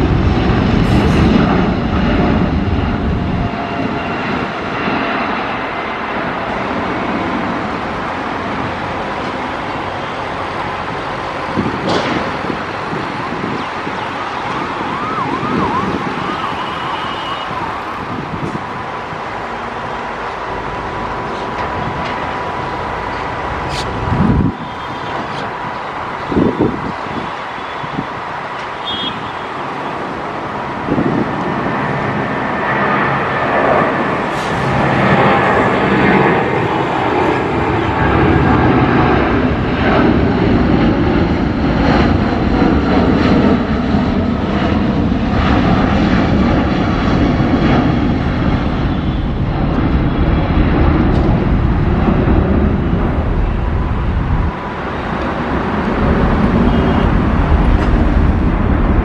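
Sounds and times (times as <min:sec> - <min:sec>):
jet engines roaring overhead: 0:00.0 - 0:59.0.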